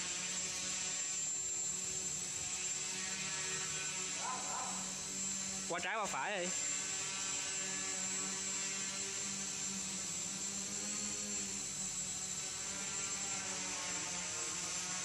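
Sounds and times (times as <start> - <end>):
drone motors buzzing hum: 0.0 - 15.0.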